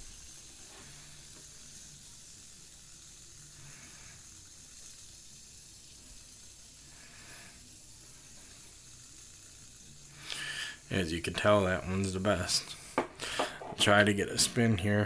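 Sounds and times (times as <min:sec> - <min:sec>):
fidget spinner hissing: 0:00.0 - 0:15.0.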